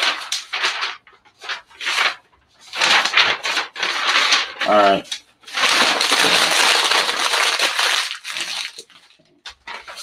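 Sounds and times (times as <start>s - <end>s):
paper crinkling and sliding: 0.0s - 10.0s.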